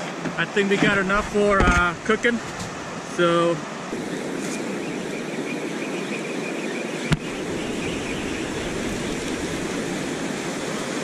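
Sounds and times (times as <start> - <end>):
ocean surf on a beach: 0.0 - 11.0.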